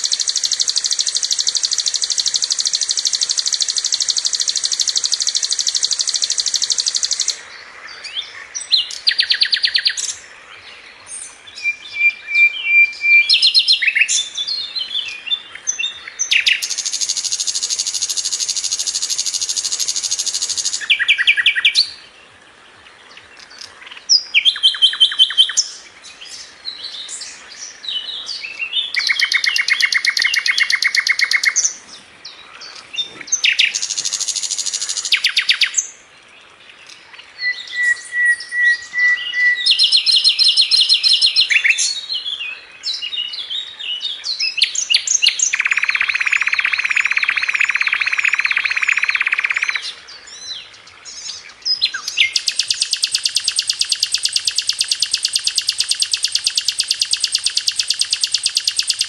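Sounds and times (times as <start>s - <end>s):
bird singing high trills: 0.0s - 7.4s, 8.0s - 10.2s, 11.2s - 22.1s, 24.1s - 31.8s, 32.7s - 36.0s, 37.3s - 59.0s.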